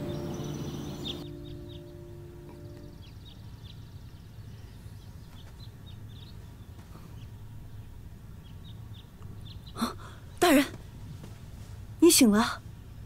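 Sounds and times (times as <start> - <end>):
small birds chirping: 0.0 - 11.4
low steady background hum: 0.0 - 13.0.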